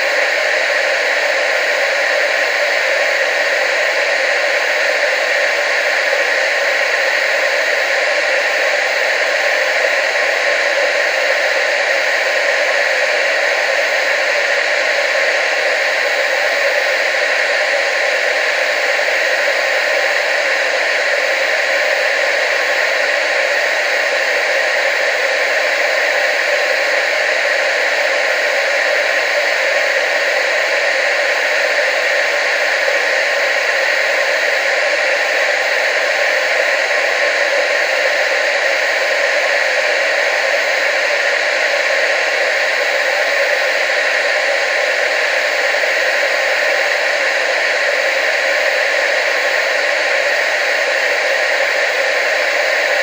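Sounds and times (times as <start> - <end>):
television static hiss: 0.0 - 53.0.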